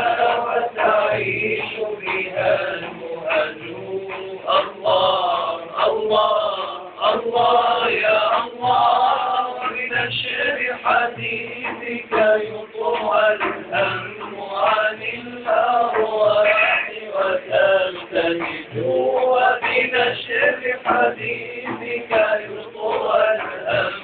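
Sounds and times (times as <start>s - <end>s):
frame drum beating: 0.0s - 24.0s
men singing together: 0.0s - 24.0s.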